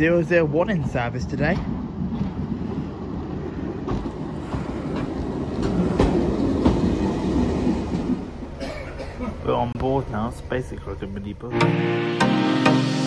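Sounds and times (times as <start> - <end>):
railcar passing rumble: 0.0 - 11.6.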